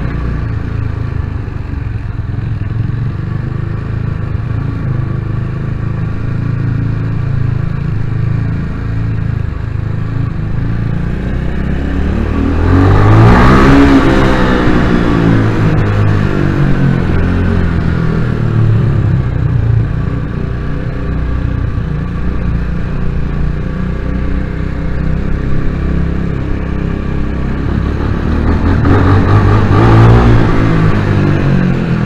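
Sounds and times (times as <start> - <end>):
motorcycle engine echoing: 0.0 - 32.0.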